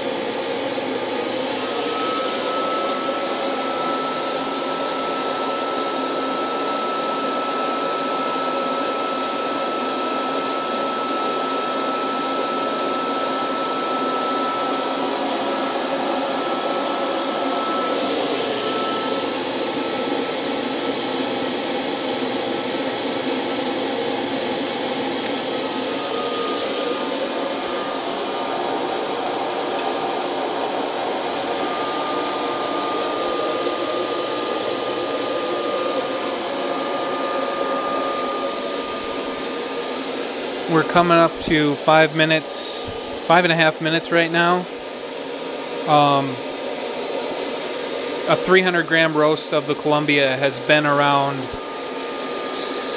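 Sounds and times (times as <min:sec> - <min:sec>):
hot-air blower rushing with whine: 0:00.0 - 0:52.9.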